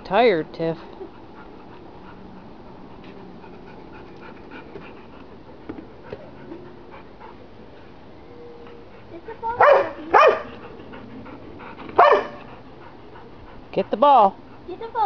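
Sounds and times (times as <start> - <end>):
dog panting: 0.2 - 8.0, 8.6 - 15.0.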